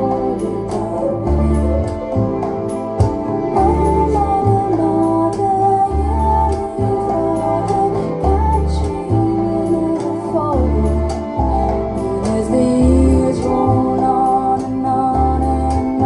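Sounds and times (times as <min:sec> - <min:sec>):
deep bass notes: 0:00.0 - 0:16.0
guitar: 0:00.0 - 0:16.0
woman singing: 0:00.0 - 0:16.0.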